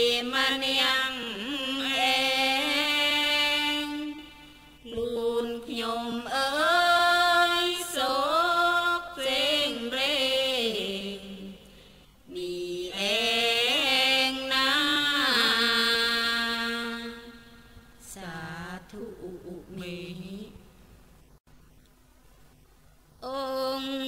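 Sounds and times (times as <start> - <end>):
person chanting melodically: 0.0 - 11.7, 12.3 - 20.6.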